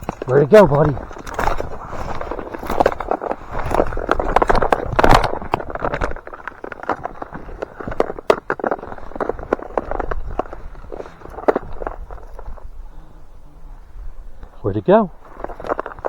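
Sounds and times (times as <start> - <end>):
footsteps on dry ground cover: 0.0 - 16.0.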